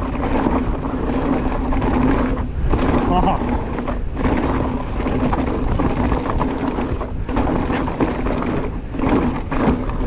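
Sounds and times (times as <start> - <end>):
bike knocks and rattles: 0.0 - 10.0
tyre rumble: 0.0 - 10.0
wind rushing over microphone: 0.0 - 10.0.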